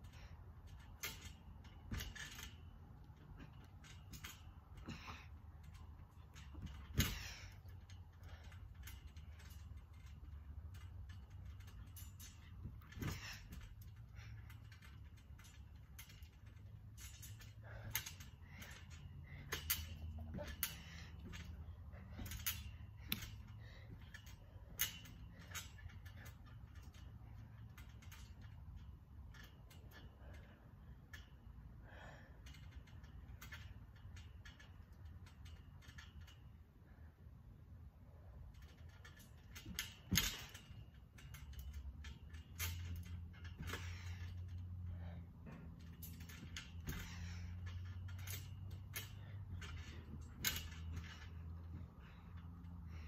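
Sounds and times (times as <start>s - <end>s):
low steady rumble: 0.0s - 53.0s
trampoline springs clicking and creaking: 0.0s - 53.0s.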